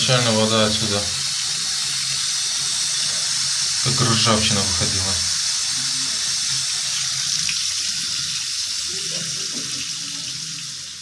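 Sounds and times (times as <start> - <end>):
water running from shower hose: 0.0 - 11.0
water spilling into bathtub: 0.0 - 11.0.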